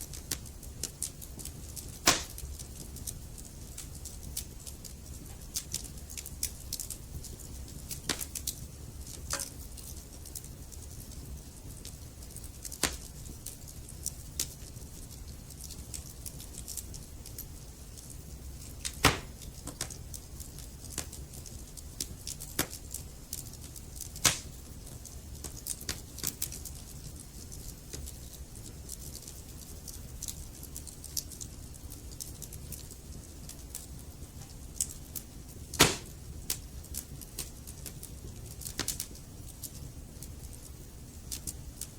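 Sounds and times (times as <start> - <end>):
burning logs popping: 0.0 - 41.9
wood fire crackling: 0.0 - 41.9.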